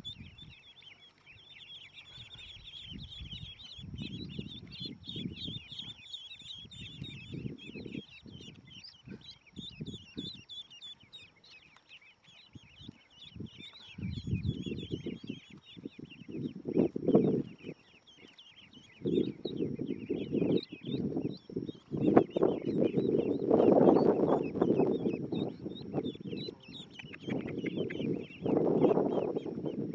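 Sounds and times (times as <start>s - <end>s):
ducklings peeping: 0.0s - 29.9s.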